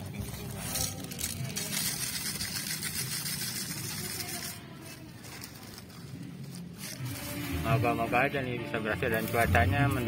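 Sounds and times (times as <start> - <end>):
paper and plastic rustling: 0.0 - 8.3.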